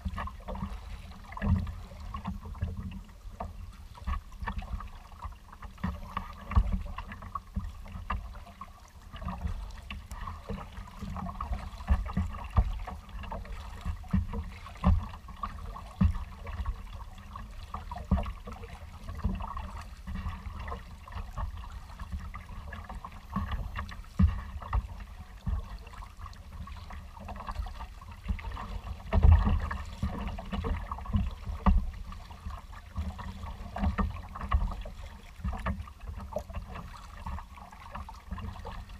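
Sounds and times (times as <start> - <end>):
water slapping against kayak hull: 0.0 - 38.9
wind: 0.0 - 38.9.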